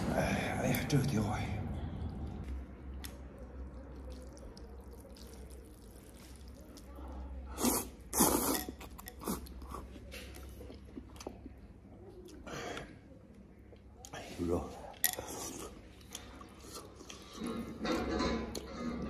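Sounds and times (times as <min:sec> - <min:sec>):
chewing and mouth sounds: 0:01.8 - 0:14.3, 0:14.9 - 0:19.0.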